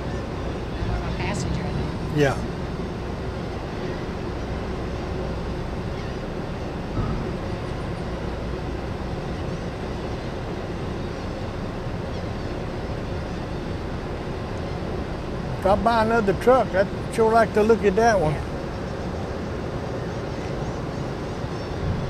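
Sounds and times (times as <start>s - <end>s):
ferry engine rumble: 0.0s - 22.0s.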